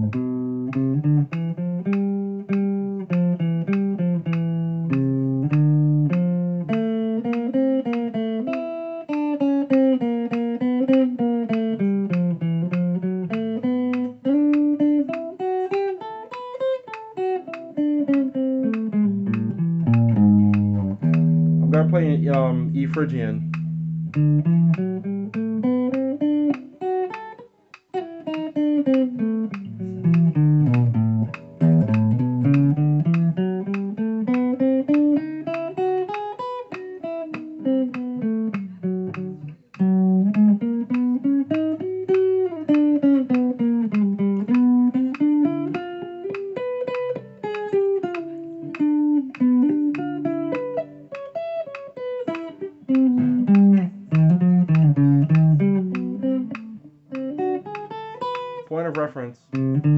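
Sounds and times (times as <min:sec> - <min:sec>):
electric guitar picking scale notes: 0:00.0 - 0:59.9.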